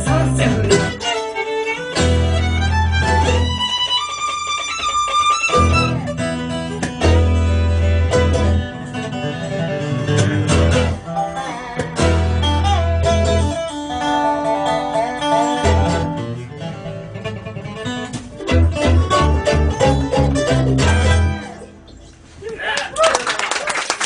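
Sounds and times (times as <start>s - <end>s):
banjo: 0.0s - 22.0s
plucked acoustic guitar: 0.0s - 22.1s
bluegrass band playing: 0.0s - 22.4s.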